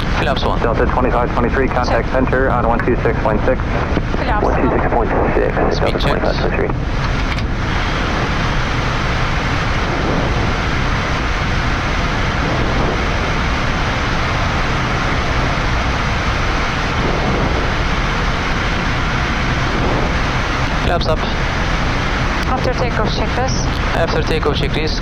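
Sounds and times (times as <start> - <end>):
cockpit airflow rushing: 0.0 - 25.0.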